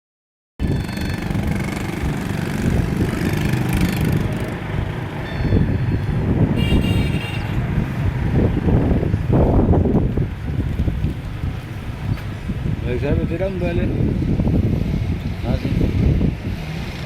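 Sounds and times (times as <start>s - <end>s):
wind buffeting microphone: 0.6s - 17.0s.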